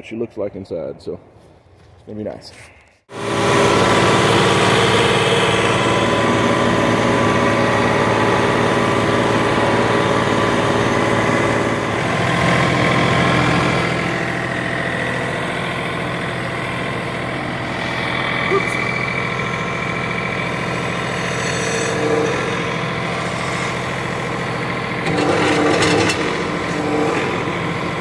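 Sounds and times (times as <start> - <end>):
engine idling: 3.1 - 28.0.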